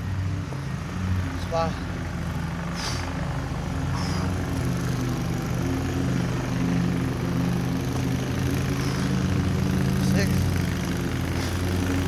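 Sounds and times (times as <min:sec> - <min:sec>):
lawn mower engine running: 0:00.2 - 0:12.0.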